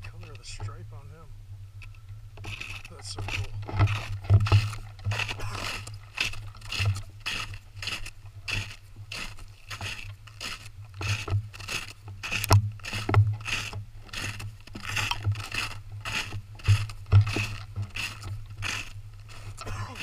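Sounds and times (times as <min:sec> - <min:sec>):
boots crunching through snow: 0:02.5 - 0:20.0.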